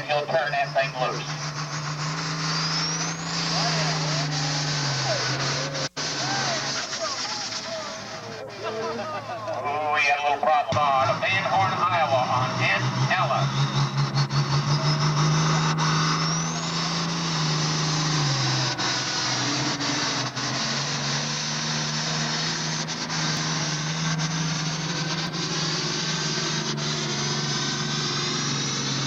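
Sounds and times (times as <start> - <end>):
tractor diesel engine at high revs: 0.0 - 29.0.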